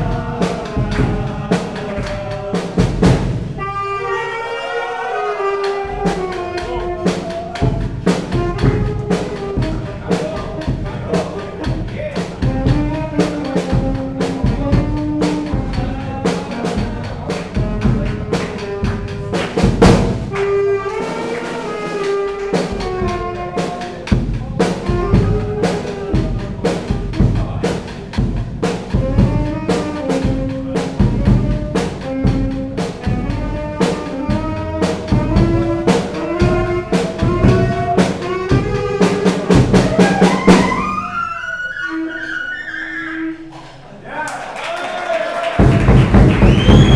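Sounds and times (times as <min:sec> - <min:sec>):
saxophone melody: 0:00.0 - 0:28.2, 0:28.8 - 0:43.5
drum kit beat: 0:00.0 - 0:41.6, 0:45.4 - 0:46.9.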